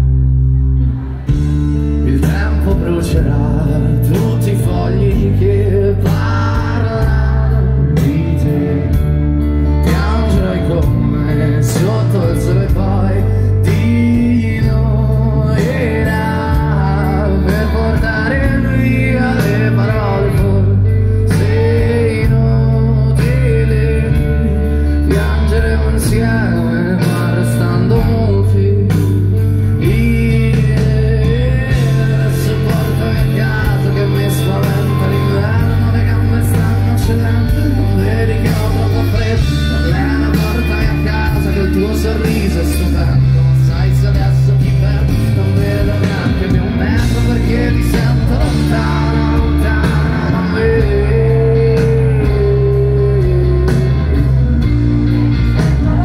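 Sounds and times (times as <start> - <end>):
bass notes: 0.0 - 56.0
drums: 0.0 - 56.0
electric guitar: 0.0 - 56.0
live rock band playing: 0.0 - 56.0
person singing: 0.0 - 56.0.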